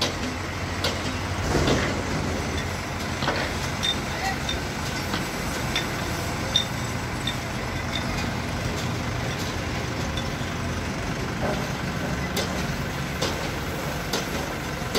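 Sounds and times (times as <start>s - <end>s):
engine humming: 0.0s - 14.9s
outdoor noise: 0.0s - 14.9s.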